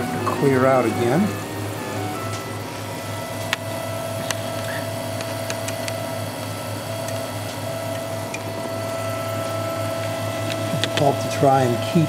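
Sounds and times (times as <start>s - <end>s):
pulsing low hum: 0.0s - 12.0s
stepper motors whining: 0.0s - 12.0s.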